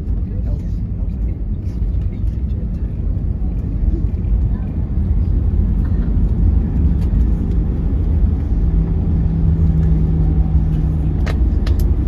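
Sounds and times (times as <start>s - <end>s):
low rumble in aircraft cabin: 0.0s - 12.0s.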